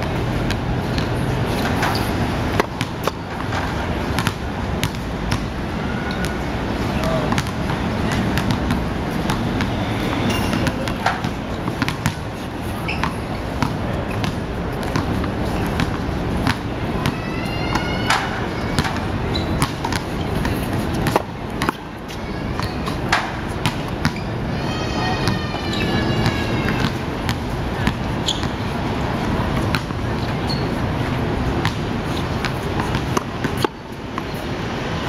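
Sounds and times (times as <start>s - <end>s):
basketballs bouncing on asphalt: 0.0s - 24.3s, 26.2s - 34.8s
urban background hum: 0.0s - 35.0s.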